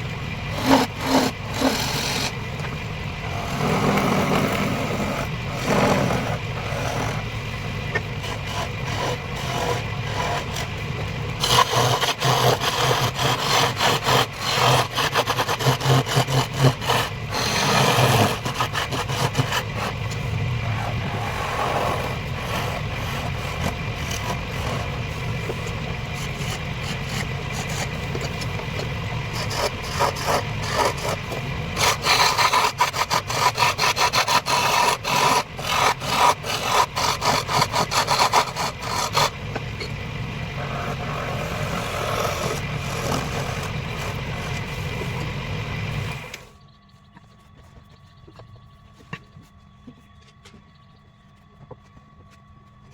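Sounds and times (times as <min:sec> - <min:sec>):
turning tool scraping wood: 0:00.0 - 0:46.5
wood lathe humming: 0:00.0 - 0:46.5.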